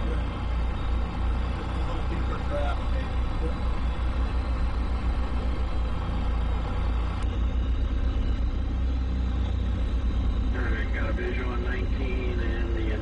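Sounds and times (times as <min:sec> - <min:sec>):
boat engines low rumble: 0:00.0 - 0:13.0.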